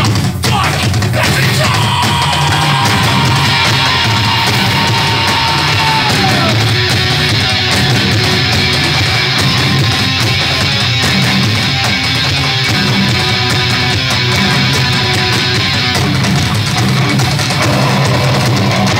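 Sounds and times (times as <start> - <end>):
bass guitar: 0.0 - 18.9
distorted electric guitars: 0.0 - 18.9
drums: 0.0 - 18.9.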